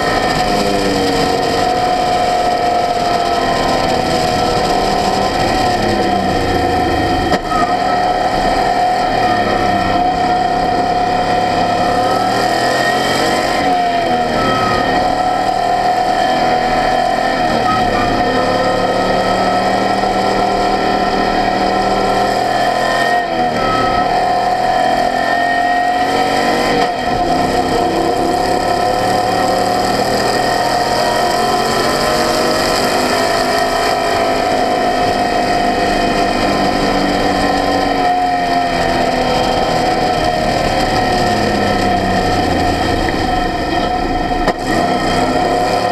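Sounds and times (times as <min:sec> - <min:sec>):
race car engine running hard: 0:00.0 - 0:45.9.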